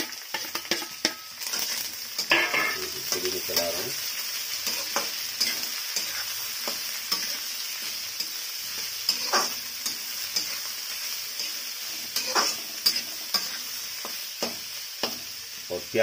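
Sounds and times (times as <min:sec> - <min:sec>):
spatula scraping a pan: 0:00.0 - 0:15.2
onions sizzling in oil: 0:00.0 - 0:16.0.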